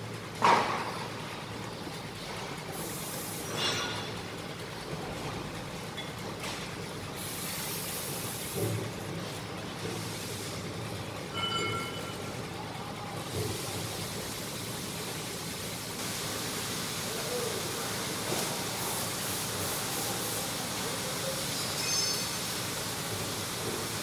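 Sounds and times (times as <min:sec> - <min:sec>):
workshop background noise: 0:00.0 - 0:24.0.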